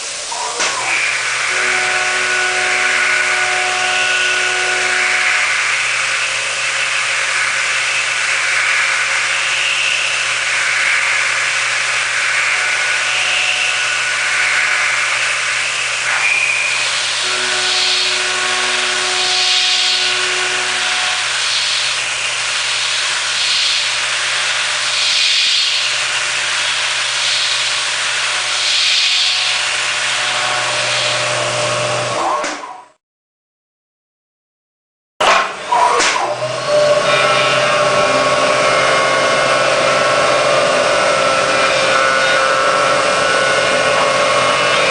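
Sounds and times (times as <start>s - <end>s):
milling machine cutting: 0.0s - 32.4s, 35.3s - 44.9s.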